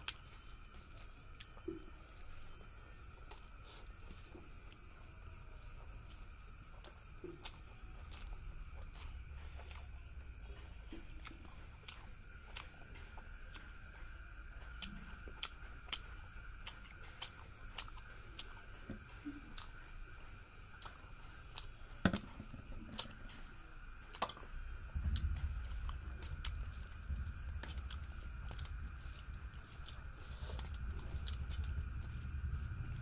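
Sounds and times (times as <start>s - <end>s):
faint high hum: 0.0s - 33.0s.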